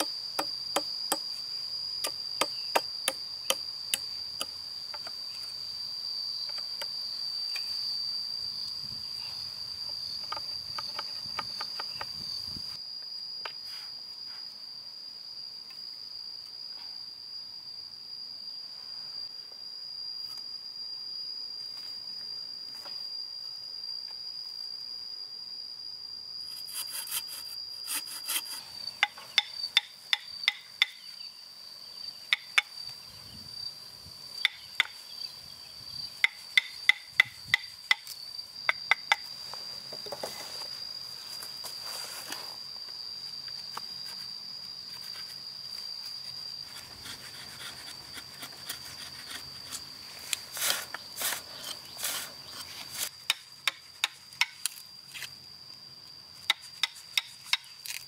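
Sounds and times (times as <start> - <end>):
high insect trill: 0.0 - 58.0.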